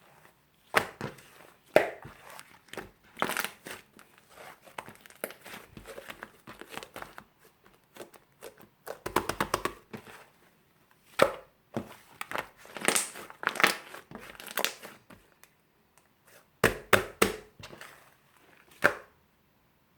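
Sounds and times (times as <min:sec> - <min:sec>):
crinkling and crumpling: 0:00.0 - 0:11.2, 0:11.8 - 0:16.5, 0:17.6 - 0:18.8.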